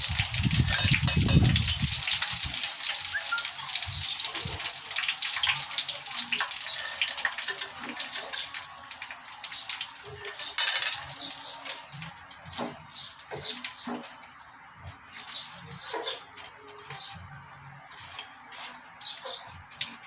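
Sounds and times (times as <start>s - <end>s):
chicken frying in oil: 0.0s - 20.0s
frying oil crackles: 0.0s - 20.0s.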